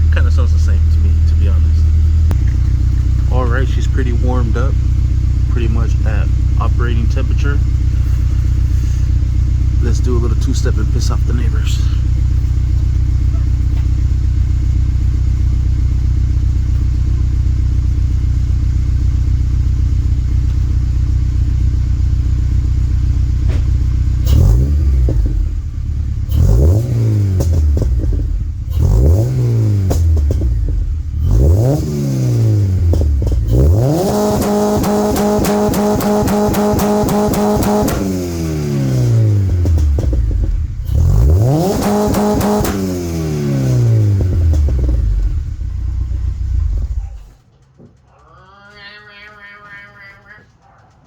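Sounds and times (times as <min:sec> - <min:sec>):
engine stuttering on rev limiter: 0:00.0 - 0:15.6, 0:18.8 - 0:51.0
car engine idling and revving: 0:00.0 - 0:51.0.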